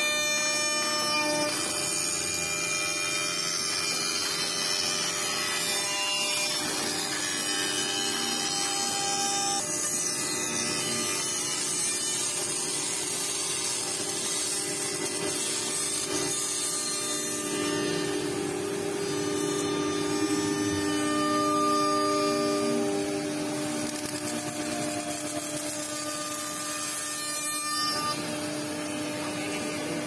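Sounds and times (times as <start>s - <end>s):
wood router milling: 0.0s - 30.0s.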